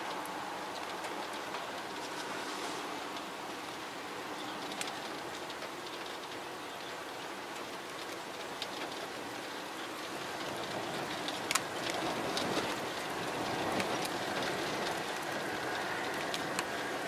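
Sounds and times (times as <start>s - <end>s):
heavy rain hiss: 0.0s - 17.0s
raindrops ticking: 0.0s - 17.0s.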